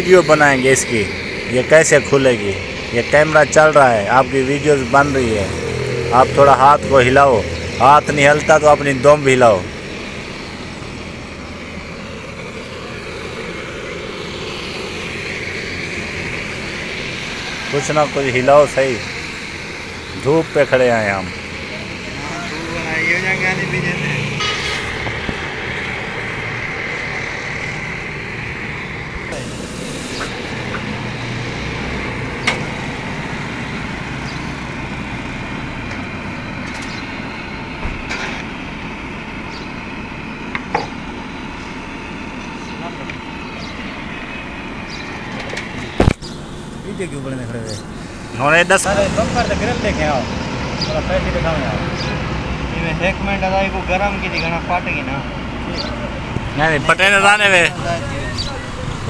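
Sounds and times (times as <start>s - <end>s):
steady rushing noise: 0.0s - 39.4s, 40.2s - 55.6s
gas blowtorch hissing: 0.0s - 59.0s.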